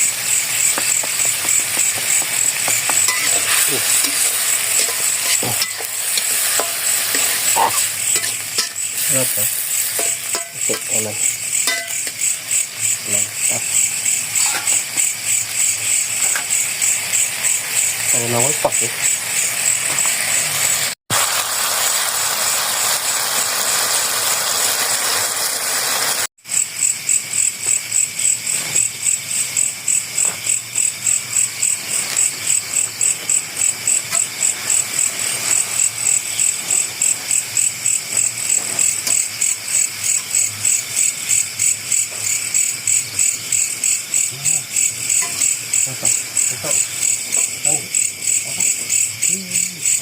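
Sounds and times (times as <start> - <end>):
crickets chirping: 0.0 - 21.0, 26.4 - 50.0.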